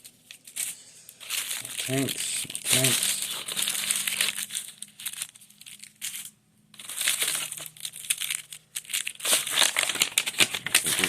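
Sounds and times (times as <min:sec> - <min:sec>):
paper wrappers crinkling: 0:00.0 - 0:11.0.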